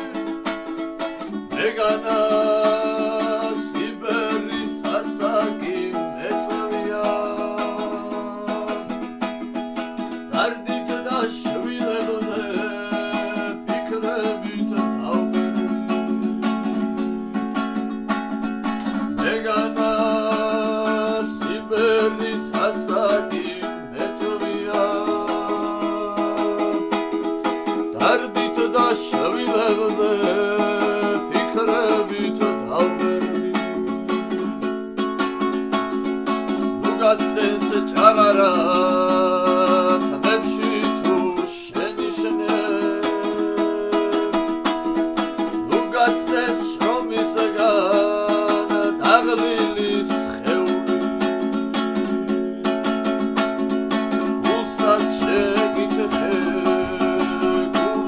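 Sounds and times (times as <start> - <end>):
strummed lute: 0.0 - 58.0.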